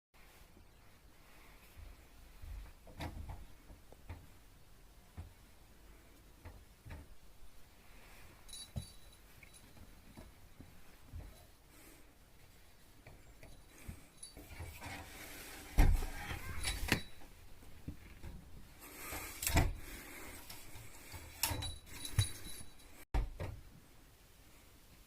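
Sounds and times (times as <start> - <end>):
knocks and rustles: 1.6 - 5.7, 6.3 - 11.6, 12.4 - 23.8.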